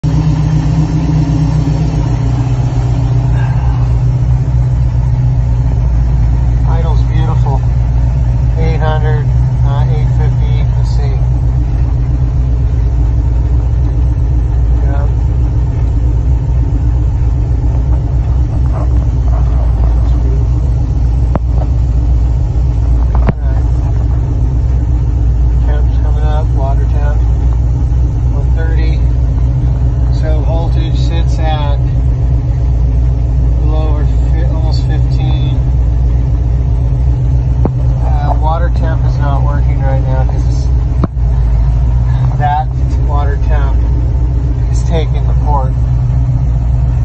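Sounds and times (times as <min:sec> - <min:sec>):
engine running with knock: 0:00.0 - 0:47.0.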